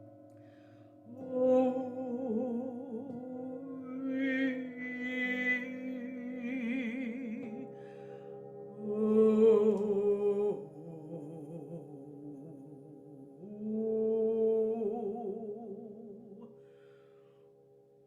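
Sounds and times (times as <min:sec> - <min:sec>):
steady held tones: 0:00.0 - 0:15.8.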